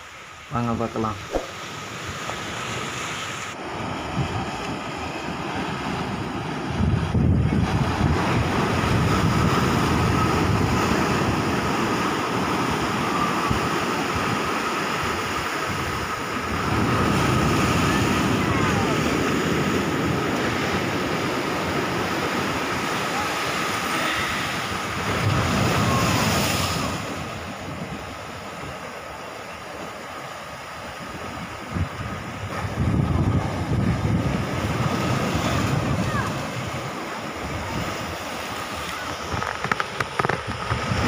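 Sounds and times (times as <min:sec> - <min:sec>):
waves breaking on seawall: 0:01.0 - 0:41.0
wind buffeting microphone: 0:03.6 - 0:28.8, 0:30.8 - 0:41.0.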